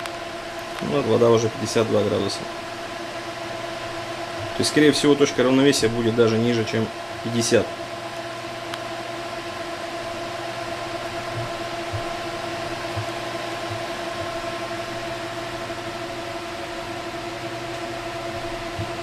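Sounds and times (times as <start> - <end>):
fans rushing air with whine: 0.0 - 19.0.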